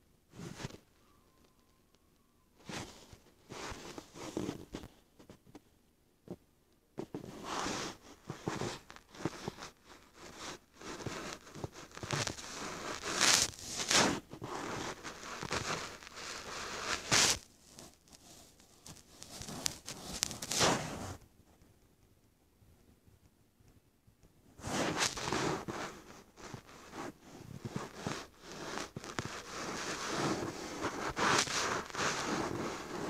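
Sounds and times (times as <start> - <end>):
rustling and crackling: 0.3 - 33.0.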